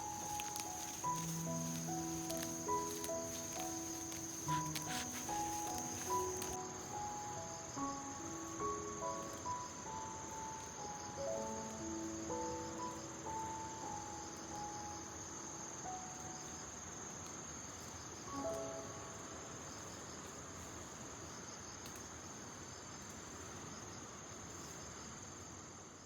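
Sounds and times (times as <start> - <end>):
crickets trilling: 0.0 - 26.0
soft hiss: 0.0 - 26.0.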